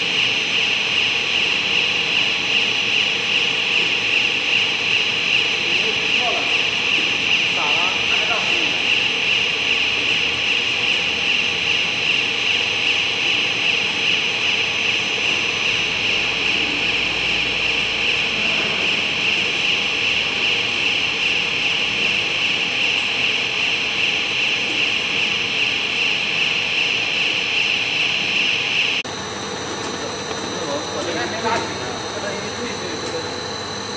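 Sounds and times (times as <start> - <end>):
constant machine tones: 0.0 - 33.9
loud machine hiss: 0.0 - 33.9.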